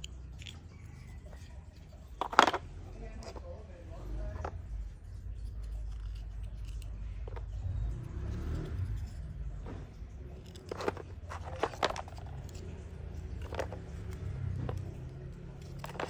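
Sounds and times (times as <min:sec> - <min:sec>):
low steady rumble: 0:00.0 - 0:16.0
wood pieces clicking and scraping: 0:00.0 - 0:16.0.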